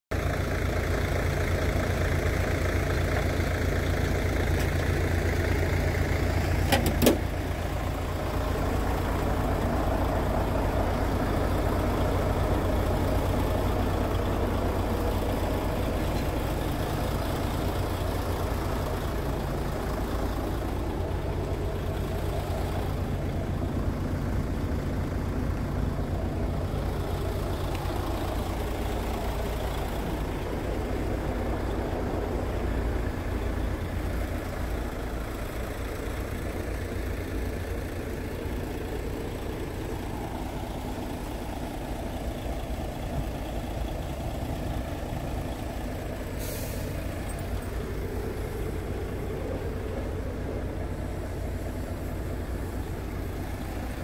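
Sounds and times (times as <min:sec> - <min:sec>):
diesel engine idling: 0:00.1 - 0:54.0.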